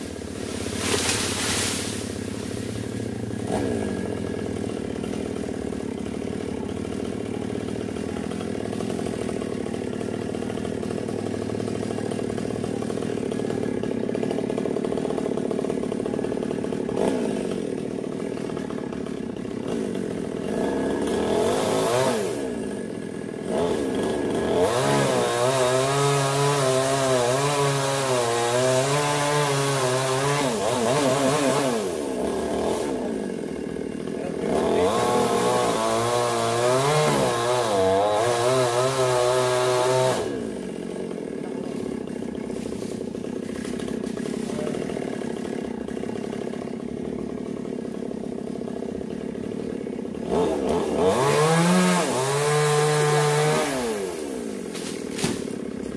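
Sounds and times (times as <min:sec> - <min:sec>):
chainsaw revving and cutting wood: 0:00.0 - 0:55.9.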